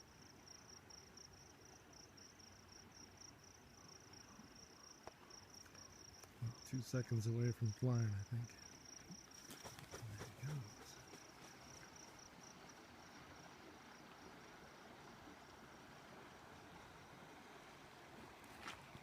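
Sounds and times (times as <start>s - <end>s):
insect chirping trill: 0.0s - 16.7s.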